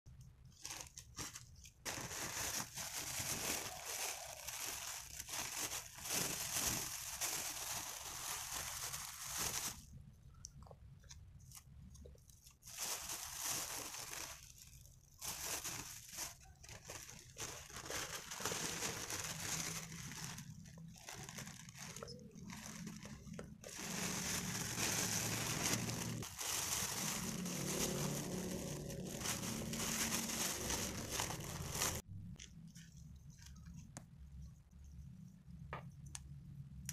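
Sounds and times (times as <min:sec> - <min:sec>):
plastic bags rustling: 0:00.4 - 0:10.0, 0:11.4 - 0:32.1.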